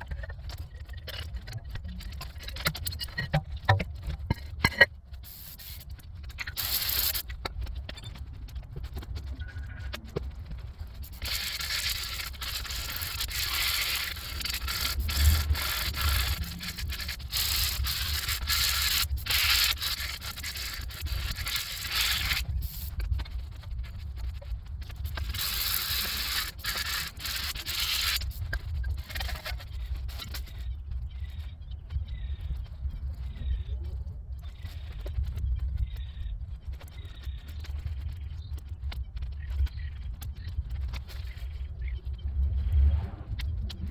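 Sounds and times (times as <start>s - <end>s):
steady low rumble: 0.0s - 26.5s, 28.4s - 43.9s.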